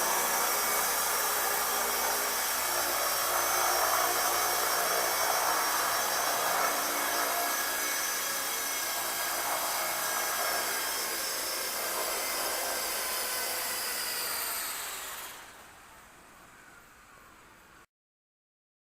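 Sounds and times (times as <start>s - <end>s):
rc helicopter motor whining: 0.0s - 16.0s.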